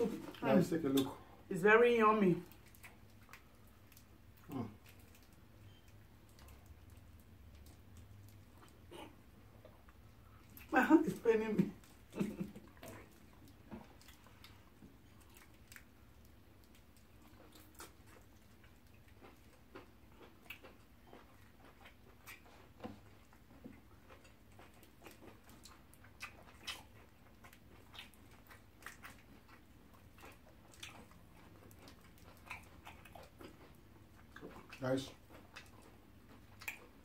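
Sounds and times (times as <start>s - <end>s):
chewing and mouth clicks: 0.0s - 1.2s, 2.4s - 37.0s.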